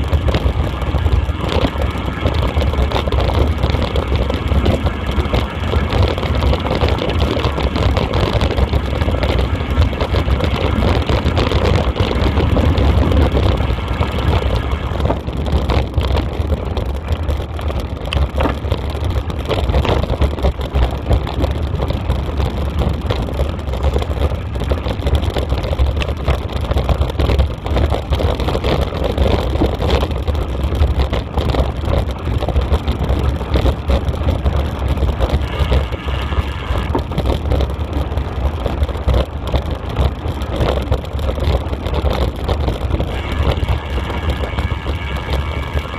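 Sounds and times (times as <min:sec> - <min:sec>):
small rattles and knocks: 0:00.0 - 0:36.0, 0:36.8 - 0:45.9
wheels rumbling on gravel: 0:00.0 - 0:45.9
wind buffeting microphone: 0:00.0 - 0:45.9.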